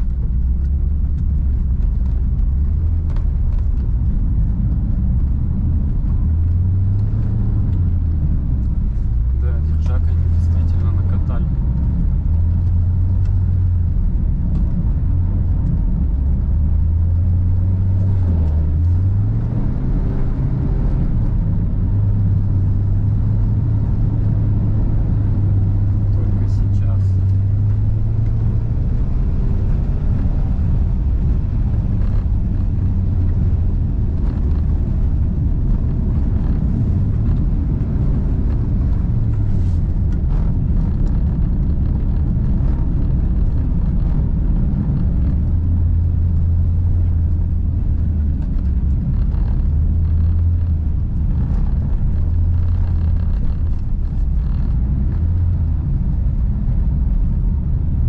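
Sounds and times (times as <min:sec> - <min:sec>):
car engine droning: 0:00.0 - 0:58.0.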